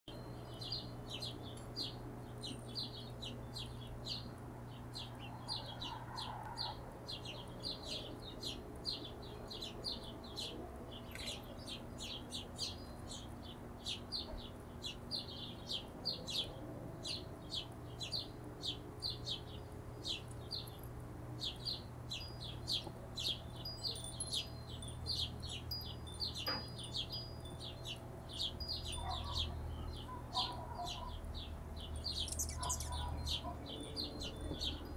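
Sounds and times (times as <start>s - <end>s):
hummingbirds chipping: 0.1s - 34.9s
steady low hum: 0.1s - 34.9s.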